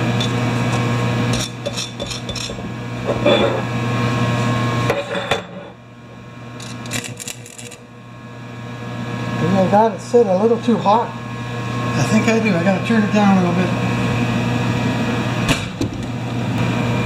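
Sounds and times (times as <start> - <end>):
welding hum: 0.0 - 5.0, 5.8 - 17.0.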